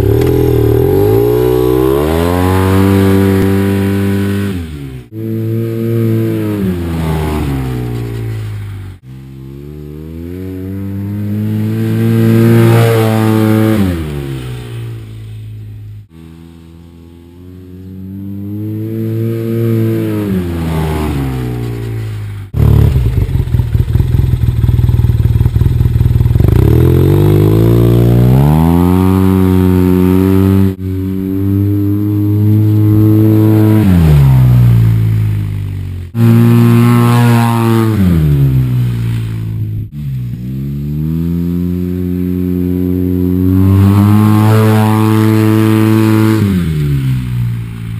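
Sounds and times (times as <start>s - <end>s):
engine revving: 0.0s - 47.9s.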